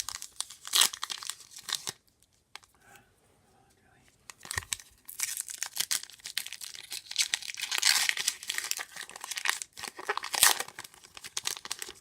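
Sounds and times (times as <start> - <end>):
foil wrapper tearing and crinkling: 0.0 - 2.0, 4.4 - 12.0.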